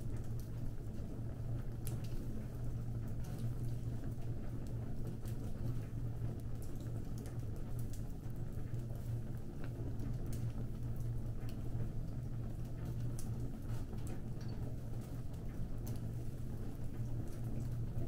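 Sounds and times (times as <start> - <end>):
fire rumbling: 0.0 - 18.0
fire crackling and popping: 0.1 - 18.0.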